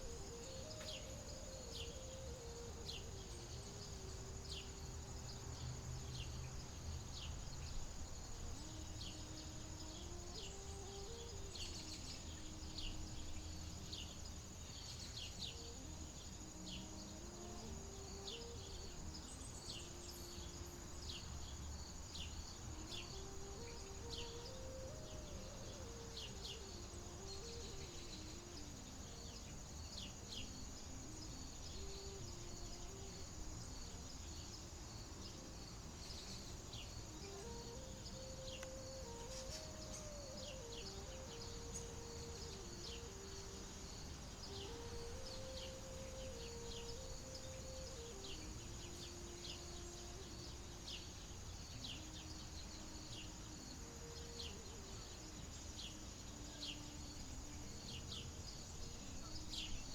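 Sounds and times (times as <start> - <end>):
crickets droning: 0.0 - 59.9
small birds chirping: 0.0 - 59.9
soft slow melody: 0.0 - 59.9.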